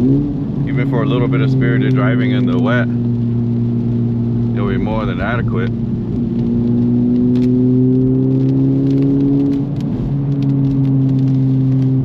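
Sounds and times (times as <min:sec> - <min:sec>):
car engine under load: 0:00.0 - 0:12.0.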